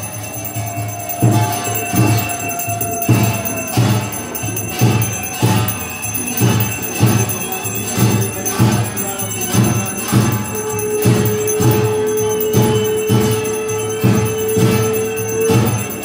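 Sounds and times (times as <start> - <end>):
deep drum beats: 0.0 - 16.0
jingling metal bells: 0.0 - 16.0.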